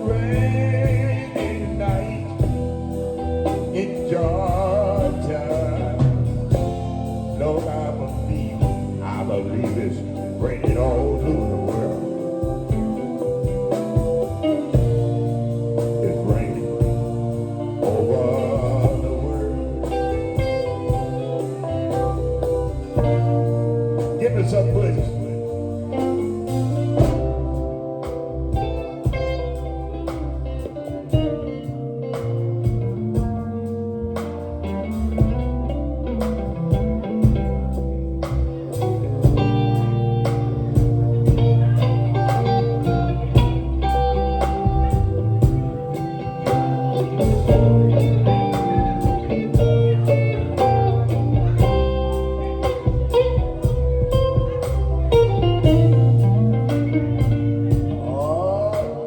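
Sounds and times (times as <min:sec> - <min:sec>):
steady drum beat: 0:00.0 - 0:31.4, 0:32.2 - 0:58.9
bass guitar: 0:00.0 - 0:59.0
guitar lead: 0:00.0 - 0:59.0.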